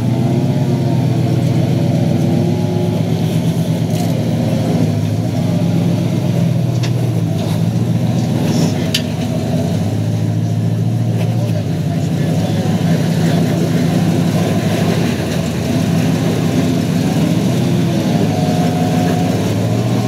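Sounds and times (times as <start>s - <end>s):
truck engine under load: 0.0s - 20.0s.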